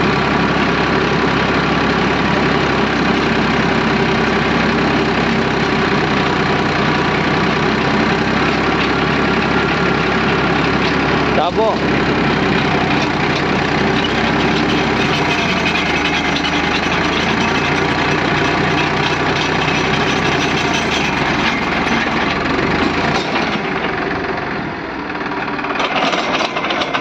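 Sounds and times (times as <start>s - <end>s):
auger boring into stony soil: 0.0s - 24.3s
tractor engine under load: 0.0s - 27.0s.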